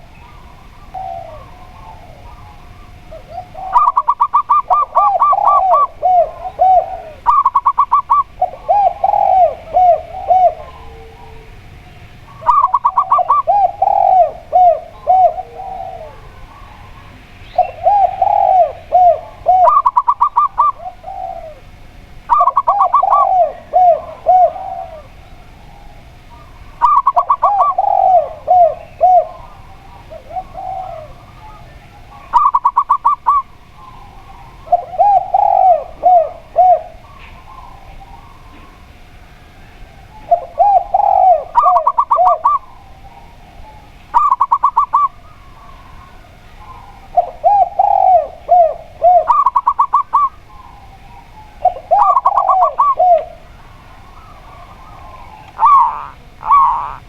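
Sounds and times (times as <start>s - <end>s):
low looping dove coos: 0.0s - 57.0s
rapid high dove coos: 0.0s - 57.0s.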